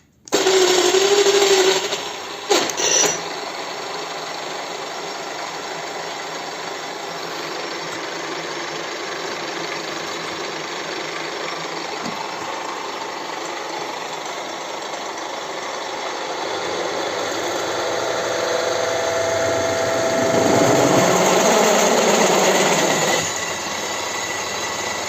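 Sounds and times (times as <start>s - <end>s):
drill press whirring: 0.0s - 25.0s.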